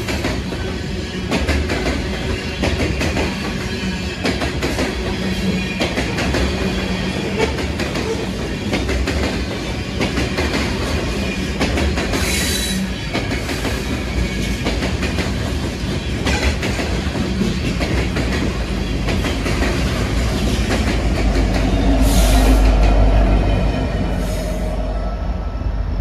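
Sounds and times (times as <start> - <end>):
train wheels clacking over rails: 0.0 - 24.7
diesel locomotive engine: 0.0 - 26.0
train wheel squeals: 0.0 - 26.0.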